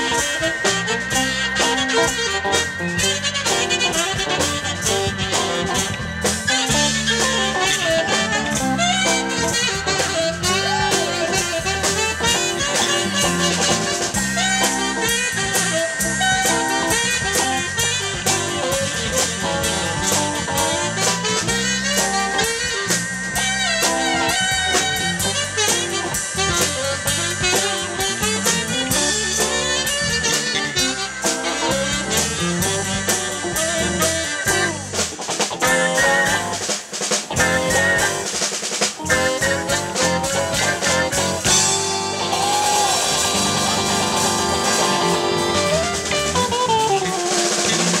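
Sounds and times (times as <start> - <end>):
bass: 0.0 - 48.0
drum kit: 0.0 - 48.0
electric guitar: 0.0 - 48.0
keyboard: 0.0 - 48.0
saxophone: 0.0 - 48.0.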